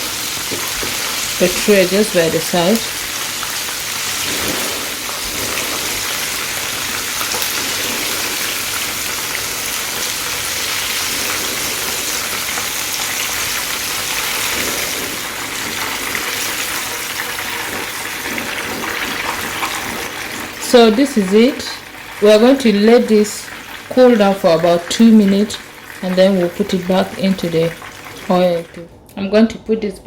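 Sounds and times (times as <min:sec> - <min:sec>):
chicken deep-frying in hot oil: 0:00.0 - 0:28.8.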